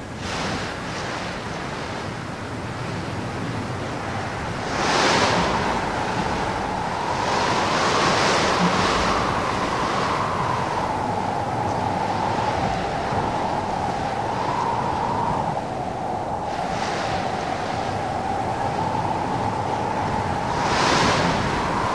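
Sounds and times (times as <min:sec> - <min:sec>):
wind rushing through trees: 0:00.0 - 0:21.9.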